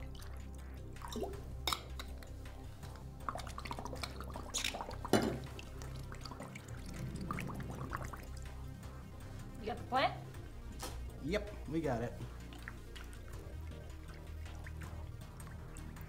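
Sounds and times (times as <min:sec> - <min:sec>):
bubbling through a drinking straw: 0:00.0 - 0:09.2, 0:12.2 - 0:16.0
small water splashes and drips: 0:00.0 - 0:09.6, 0:10.3 - 0:16.0
water pouring into a bowl: 0:00.0 - 0:09.6, 0:10.3 - 0:16.0.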